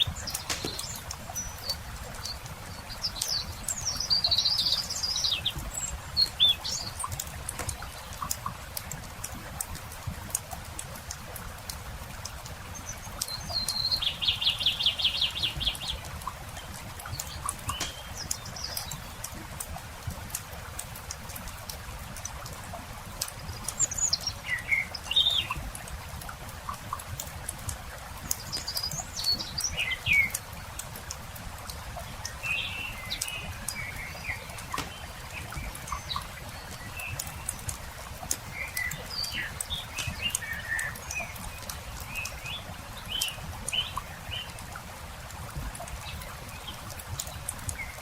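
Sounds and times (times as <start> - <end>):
campfire crackling and popping: 0.0 - 4.0, 5.0 - 13.8, 15.5 - 47.8
small birds chirping: 0.0 - 44.7.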